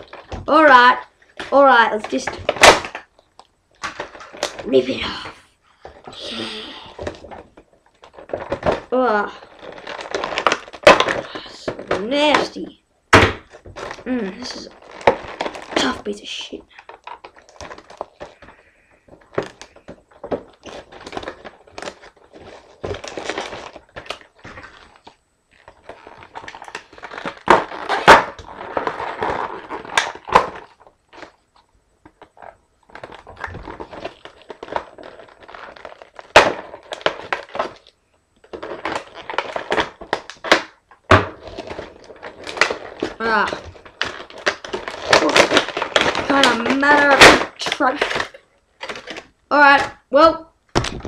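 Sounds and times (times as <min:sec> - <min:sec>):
plastic packaging crinkling: 0:00.0 - 0:50.0, 0:50.6 - 0:51.0.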